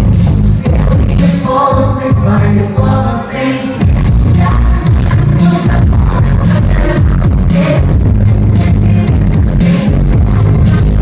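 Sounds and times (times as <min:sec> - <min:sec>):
loud electronic pop music: 0:00.0 - 0:11.0.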